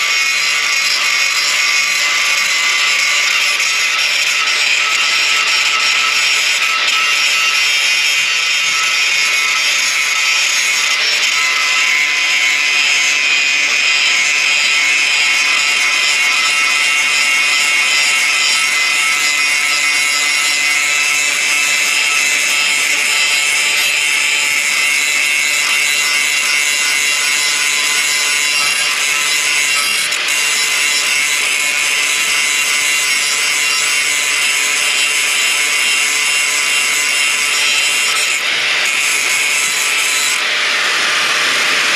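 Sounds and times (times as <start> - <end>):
power tool whining on steel: 0.0 - 41.9.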